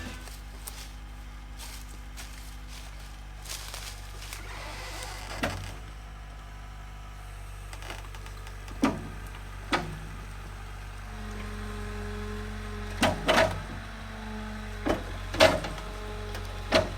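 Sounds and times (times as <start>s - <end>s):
skid loader engine running: 0.0s - 16.9s.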